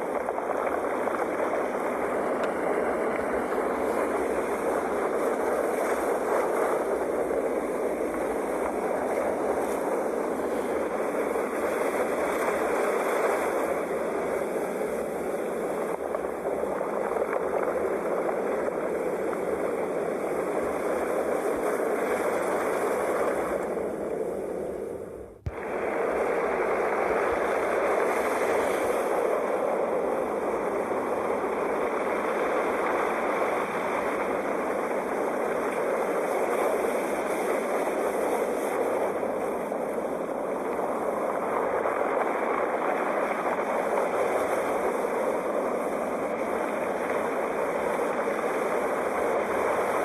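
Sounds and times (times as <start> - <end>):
sea waves washing: 0.0 - 50.0.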